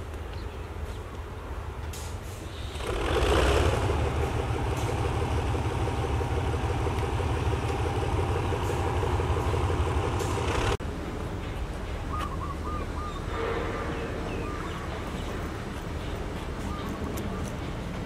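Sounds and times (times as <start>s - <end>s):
diesel railway engine rumbling: 0.0s - 18.0s.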